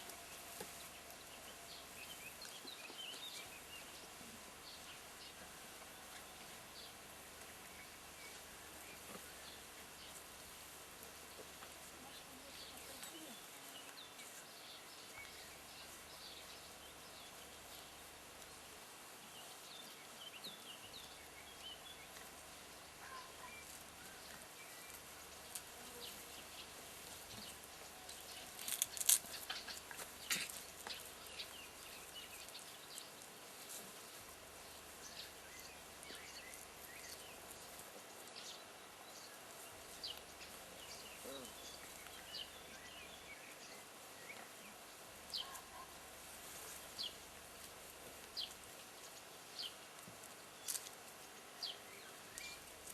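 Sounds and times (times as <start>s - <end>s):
faint background hiss: 0.0s - 52.9s.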